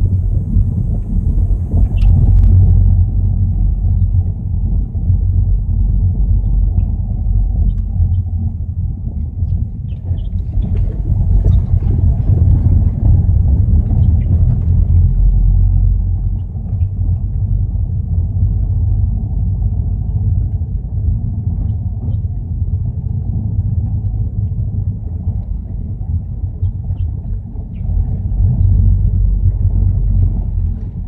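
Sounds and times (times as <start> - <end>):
low steady suspension rumble: 0.0 - 31.0.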